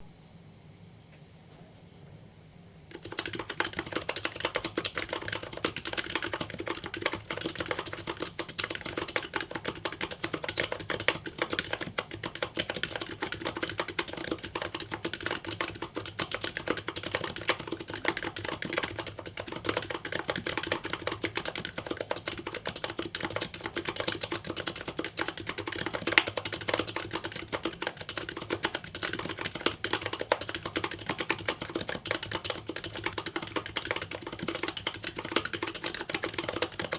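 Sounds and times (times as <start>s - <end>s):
fast typing on keyboard: 2.9s - 36.9s.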